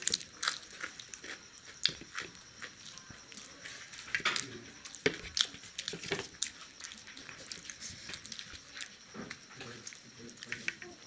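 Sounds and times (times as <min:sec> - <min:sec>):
chewing crunchy fritters: 0:00.0 - 0:11.0.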